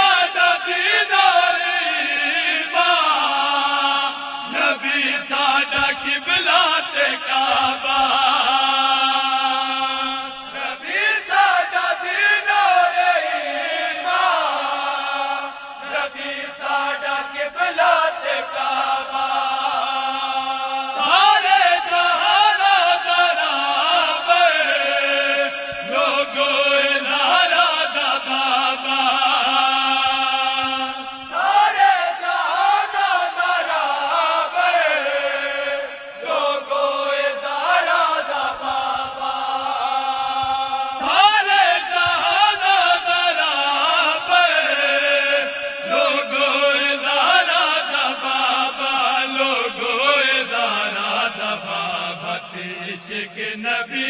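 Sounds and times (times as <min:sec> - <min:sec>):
men's group chanting in unison: 0:00.0 - 0:54.0.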